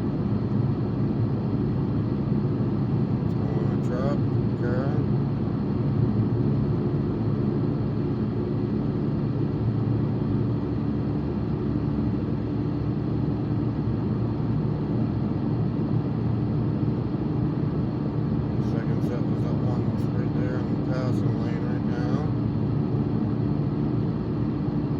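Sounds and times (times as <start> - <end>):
car cabin road and engine noise: 0.1 - 24.9.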